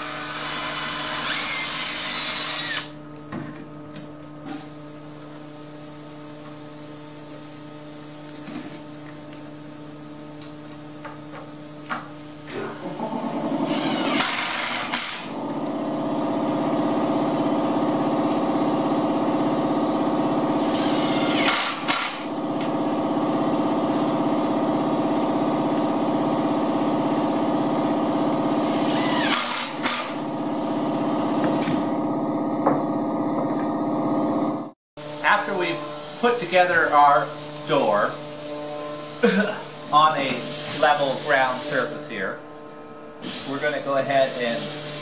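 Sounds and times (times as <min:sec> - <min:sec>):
pitched machine hum: 0:00.0 - 0:03.2, 0:09.0 - 0:45.0.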